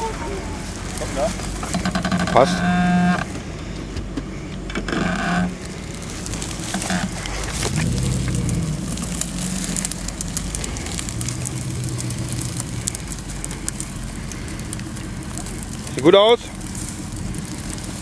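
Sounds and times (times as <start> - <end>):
crackling and knocks: 0.0 - 18.0
engine running at low revs: 0.0 - 18.0.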